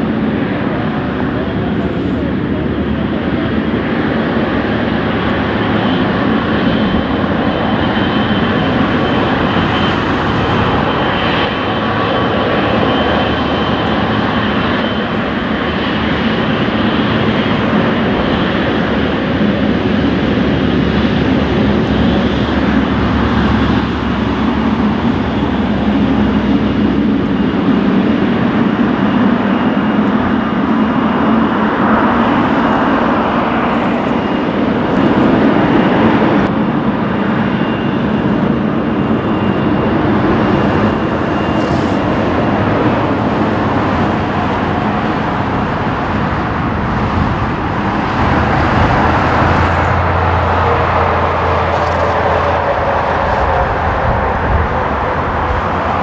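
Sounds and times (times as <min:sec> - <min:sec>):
jet engines taxiing: 0:00.0 - 0:56.0.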